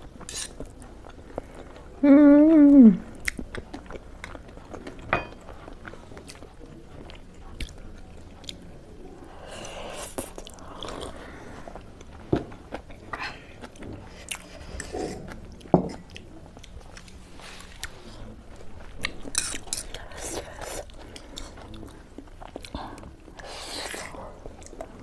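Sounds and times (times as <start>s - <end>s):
chewing noodles: 3.0s - 25.0s.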